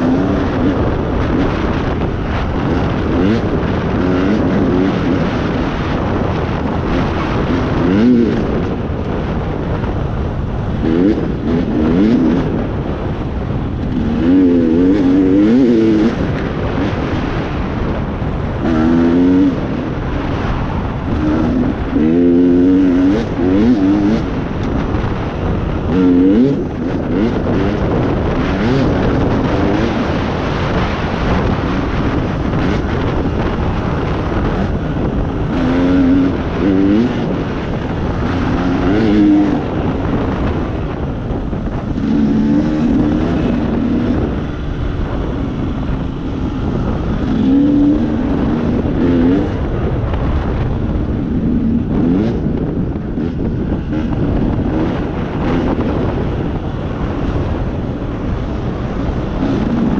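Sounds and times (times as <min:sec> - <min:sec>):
vehicle engine revving: 0:00.0 - 0:59.9
wind and travel noise: 0:00.0 - 0:59.9.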